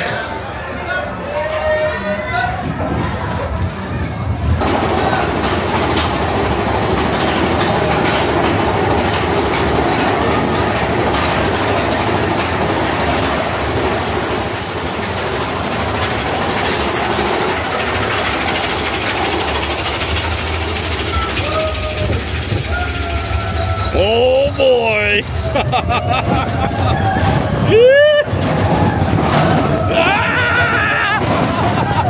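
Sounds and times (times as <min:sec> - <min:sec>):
roller coaster wheels clacking on rails: 0:01.4 - 0:32.0.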